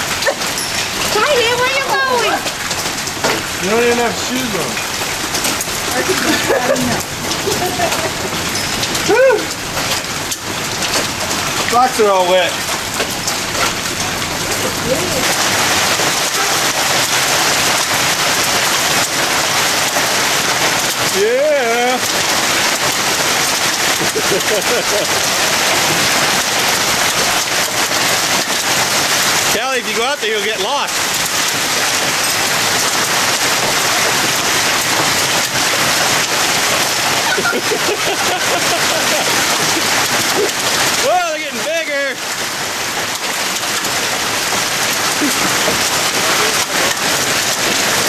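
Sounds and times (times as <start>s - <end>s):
hail pelting down: 0.0s - 48.0s.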